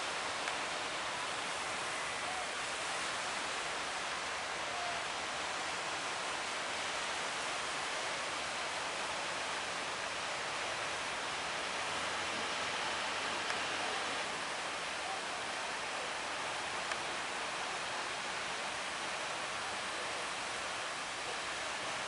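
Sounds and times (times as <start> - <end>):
sea water rushing: 0.0 - 22.0.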